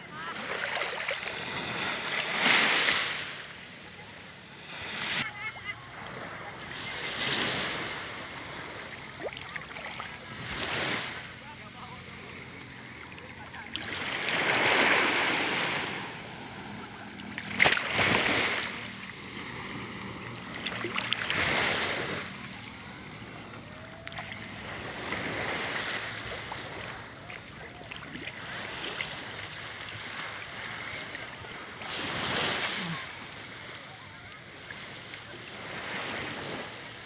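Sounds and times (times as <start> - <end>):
sea water lapping: 0.0 - 37.0.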